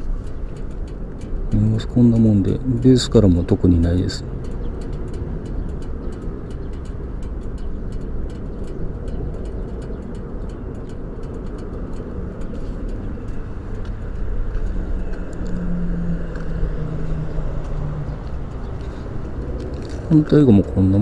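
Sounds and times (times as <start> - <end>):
light regular ticking: 0.0 - 21.0
motorcycle engine idling: 0.0 - 21.0.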